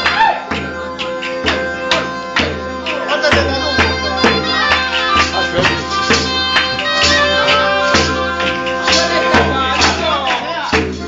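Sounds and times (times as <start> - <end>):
reed instrument melody: 0.0 - 10.6.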